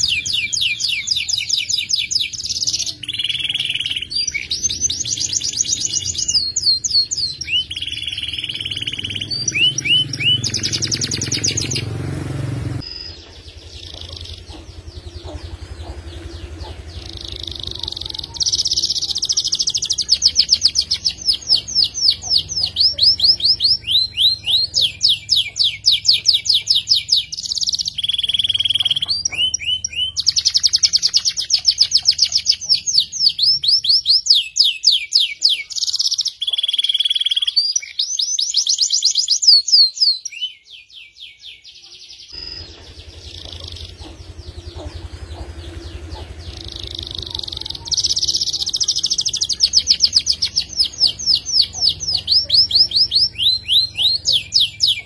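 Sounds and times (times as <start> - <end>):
canary singing fast trills: 0.0 - 55.0.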